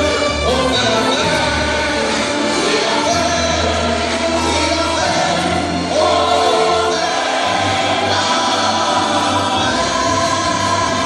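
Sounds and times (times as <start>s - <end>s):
soundtrack music with choir: 0.0s - 11.0s.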